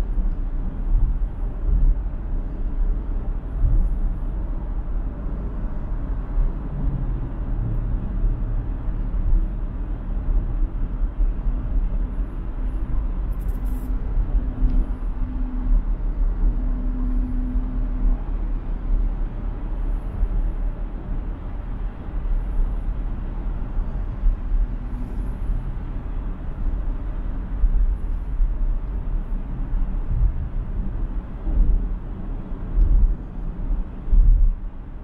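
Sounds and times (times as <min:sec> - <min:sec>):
tyre and wind road noise: 0:00.0 - 0:35.0.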